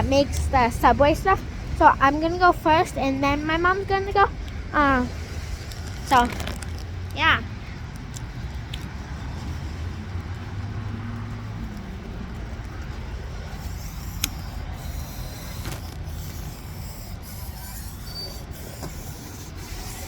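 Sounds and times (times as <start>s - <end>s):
vehicle motor rumbling: 0.0s - 20.0s.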